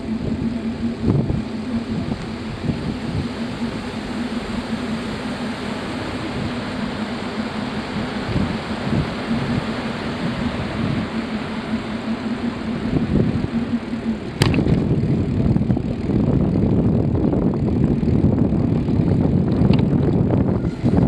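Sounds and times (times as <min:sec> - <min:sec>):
faint hum: 0:00.0 - 0:21.0
wind noise on microphone: 0:00.0 - 0:21.0.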